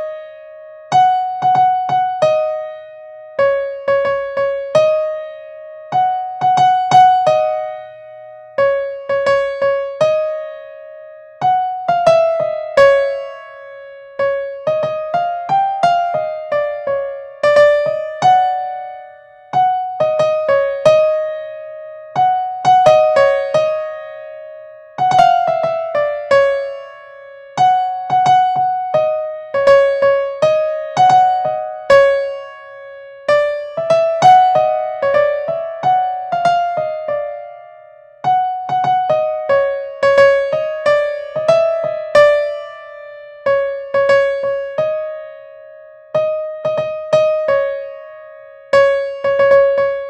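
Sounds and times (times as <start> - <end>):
keyboard melody: 0.0 - 50.0.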